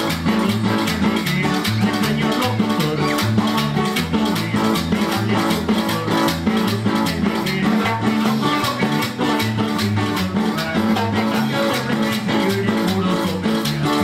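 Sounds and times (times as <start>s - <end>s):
bass line: 0.0s - 14.0s
guitars: 0.0s - 14.0s
percussion beat: 0.0s - 14.0s.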